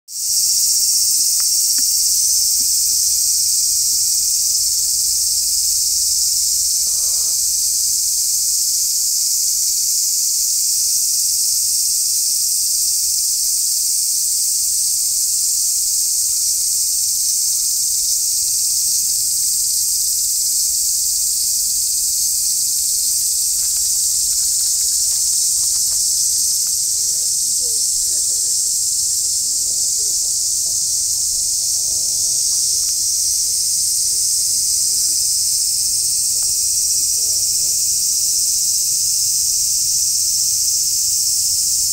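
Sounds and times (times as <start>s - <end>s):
cicadas chorus: 0.0s - 41.9s.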